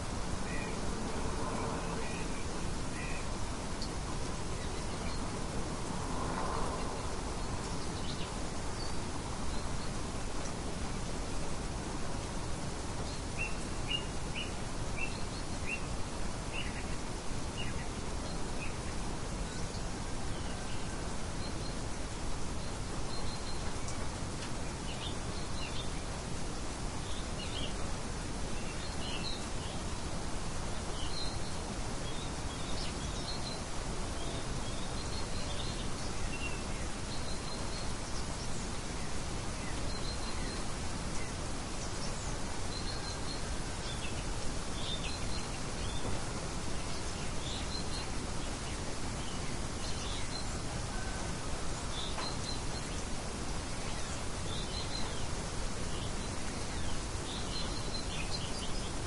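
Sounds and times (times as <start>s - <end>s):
small birds chirping: 0.0s - 5.6s, 6.4s - 51.1s, 51.7s - 59.0s
outdoor background hiss: 0.0s - 59.0s.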